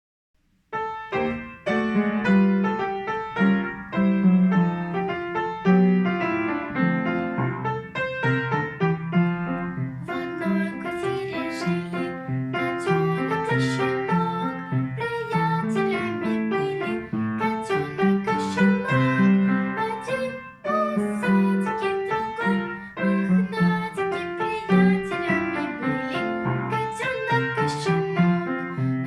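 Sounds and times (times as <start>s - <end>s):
piano playing children's song: 0.4s - 29.0s.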